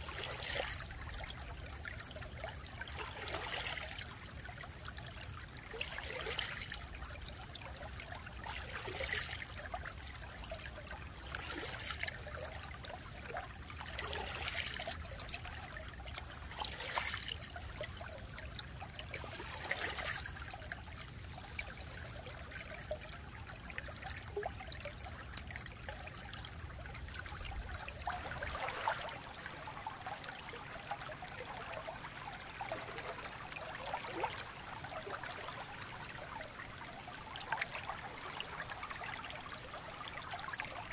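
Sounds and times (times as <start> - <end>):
stream trickling over stones: 0.0 - 40.9
water gurgle or splash: 0.0 - 40.9.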